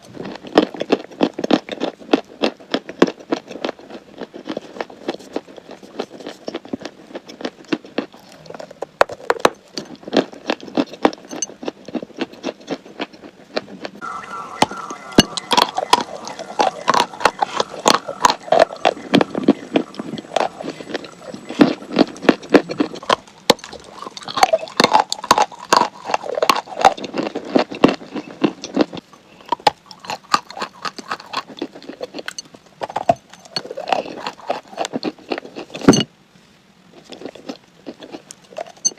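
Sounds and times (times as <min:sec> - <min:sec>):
crunchy chalk chewing: 0:00.0 - 0:35.9, 0:36.9 - 0:38.9.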